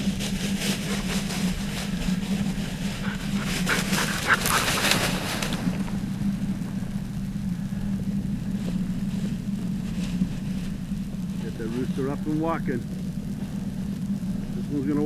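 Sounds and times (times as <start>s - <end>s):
dry grass rustling and swishing: 0.0s - 15.0s
steady low hum: 0.0s - 15.0s.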